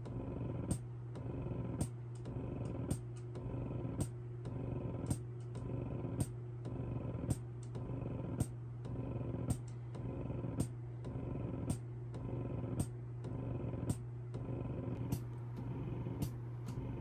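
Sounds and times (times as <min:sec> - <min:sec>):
breast pump motor hum: 0:00.0 - 0:17.0.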